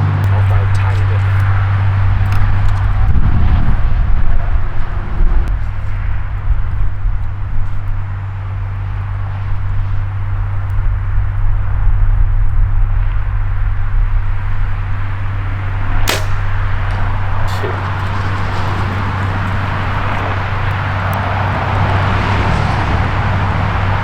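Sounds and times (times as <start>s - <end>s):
engine idling hum: 0.0s - 24.0s.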